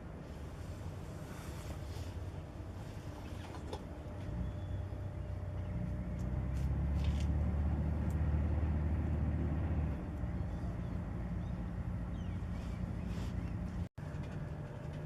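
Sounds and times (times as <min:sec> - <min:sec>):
ship diesel engine drone: 0:00.0 - 0:15.0.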